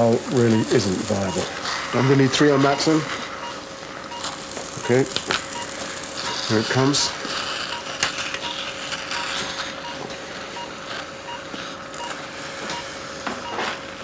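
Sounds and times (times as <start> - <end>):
steady hum: 0.0 - 14.0
patient monitor beeping: 0.4 - 13.8.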